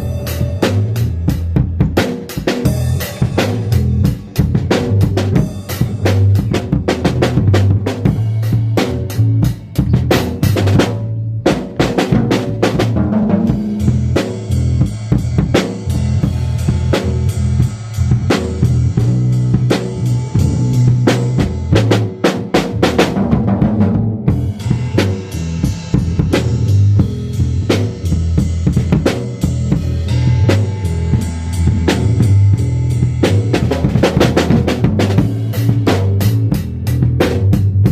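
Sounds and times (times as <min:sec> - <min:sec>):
bass line: 0:00.0 - 0:37.9
drum kit playing busy beat: 0:00.0 - 0:37.9.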